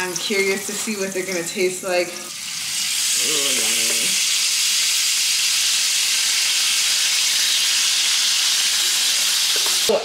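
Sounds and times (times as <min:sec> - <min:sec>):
mushrooms sizzling in a skillet: 0:00.0 - 0:10.0.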